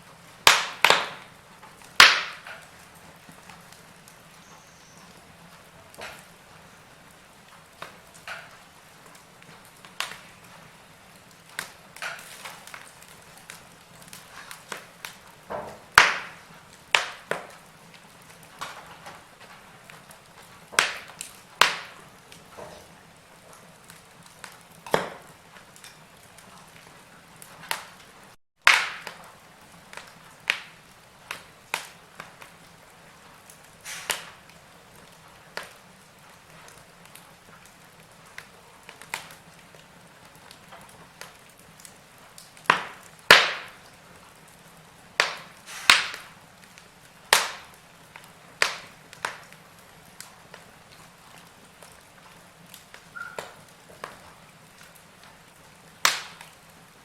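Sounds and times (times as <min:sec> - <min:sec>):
faint steady hiss: 0:00.0 - 0:57.0
log fire crackling: 0:00.0 - 0:57.0.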